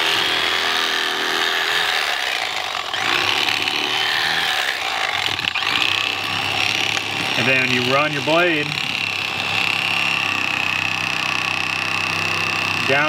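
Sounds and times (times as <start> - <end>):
electric knife buzzing: 0.0 - 13.0.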